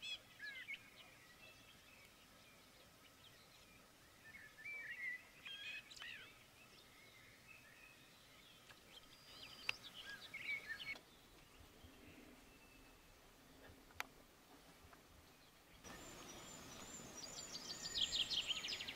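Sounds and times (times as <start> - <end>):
songbird twittering: 0.0 - 13.7, 15.2 - 18.9.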